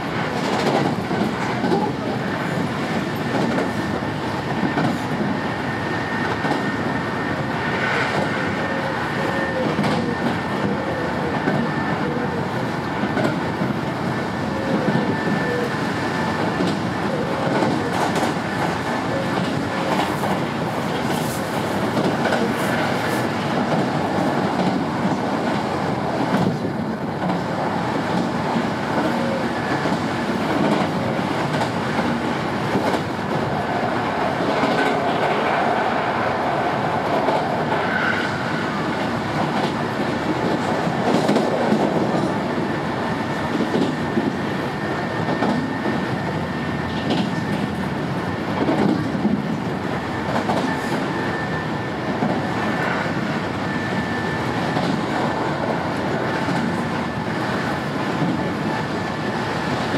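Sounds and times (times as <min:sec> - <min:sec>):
rail clicks: 0:00.0 - 0:05.4, 0:06.2 - 0:59.9
train wheels rumbling on rail: 0:00.0 - 0:59.9.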